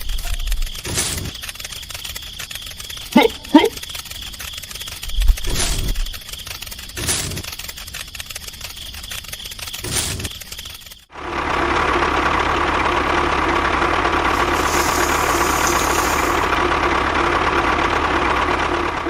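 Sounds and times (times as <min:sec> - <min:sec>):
motor running with constant hum: 0:00.0 - 0:19.0.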